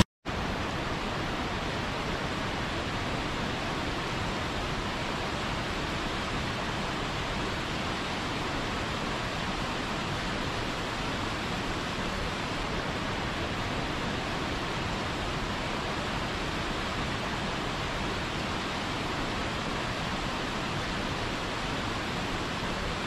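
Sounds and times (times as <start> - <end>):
rushing water roar: 0.0 - 23.0.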